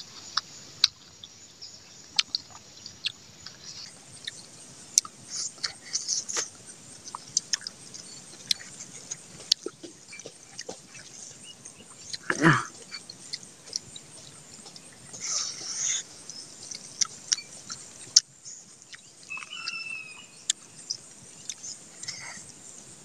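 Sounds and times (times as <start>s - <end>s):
person chewing and lip smacking: 2.2s - 4.4s, 5.0s - 19.8s, 20.5s - 22.6s.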